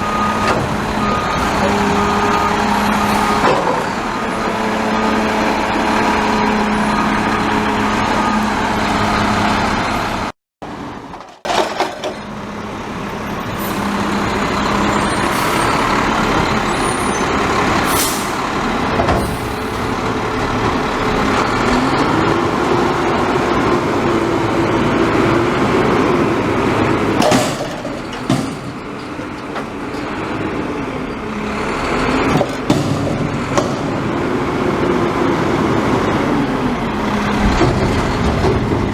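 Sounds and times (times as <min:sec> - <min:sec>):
garbage truck diesel engine running: 0:00.0 - 0:38.9.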